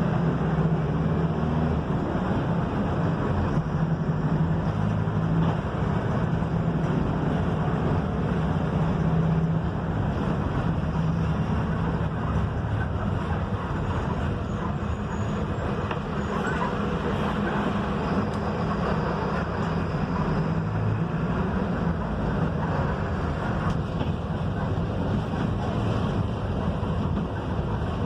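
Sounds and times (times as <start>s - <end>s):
bus diesel engine hum: 0.0s - 28.0s
road and tyre noise: 0.0s - 28.0s.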